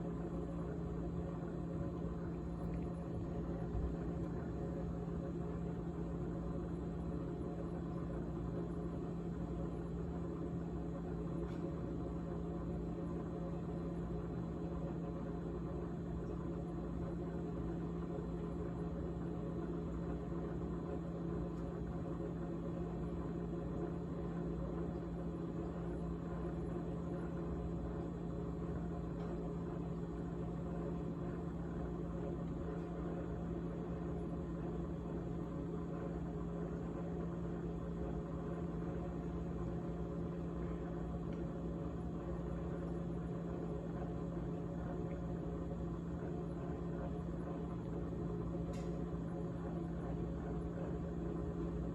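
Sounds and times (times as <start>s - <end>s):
refrigerator humming: 0.0s - 51.9s.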